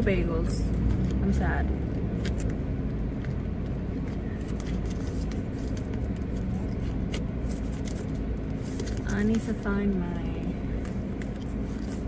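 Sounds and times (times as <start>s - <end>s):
clicks and rustles of handling: 2.0s - 12.0s.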